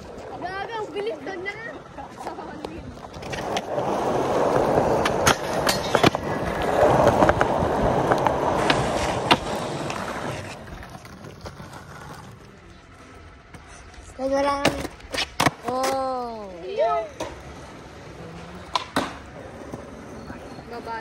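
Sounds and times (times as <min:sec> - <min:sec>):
skateboard wheels rolling on concrete: 0:00.0 - 0:21.0.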